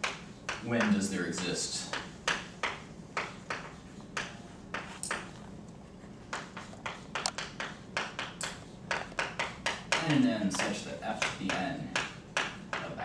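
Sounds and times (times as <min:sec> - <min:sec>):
chalk tapping and scratching: 0:00.0 - 0:13.0.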